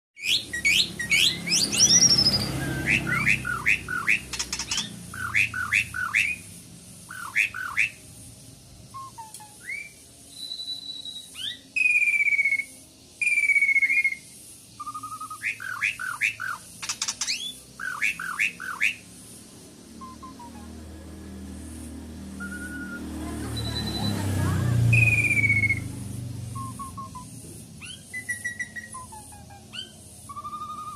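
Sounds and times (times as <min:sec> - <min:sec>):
bird long clear whistles: 0:00.2 - 0:06.5, 0:07.1 - 0:08.0, 0:08.9 - 0:16.6, 0:17.2 - 0:19.0, 0:20.0 - 0:20.7, 0:22.4 - 0:25.9, 0:26.5 - 0:30.9
starling chattering song: 0:00.2 - 0:30.9.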